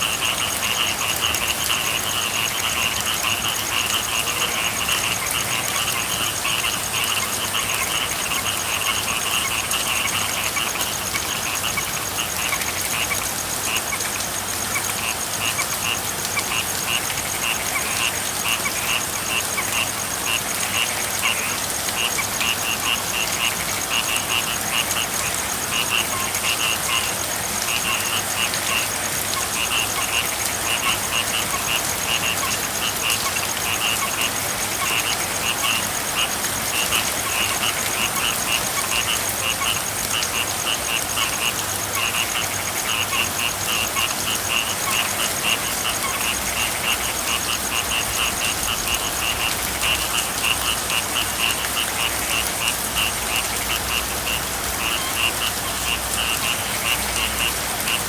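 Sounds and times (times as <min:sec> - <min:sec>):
frog chorus trilling: 0:00.0 - 0:58.0
rain hiss: 0:00.0 - 0:58.0.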